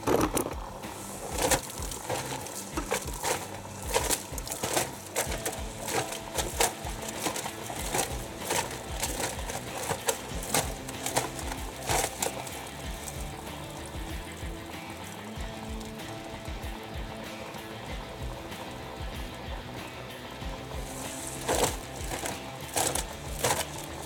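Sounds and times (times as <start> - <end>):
water and suds sloshing: 0.0 - 19.6, 20.3 - 24.0
wet laundry slapping: 0.0 - 24.0.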